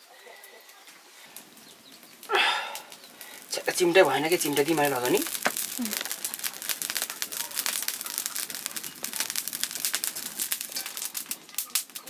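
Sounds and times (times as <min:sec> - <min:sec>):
feathers crackling in fire: 0:00.0 - 0:12.0.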